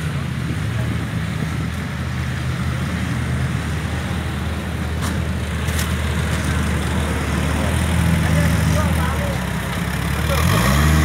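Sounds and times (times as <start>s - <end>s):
engines running at low revs: 0.0s - 11.0s.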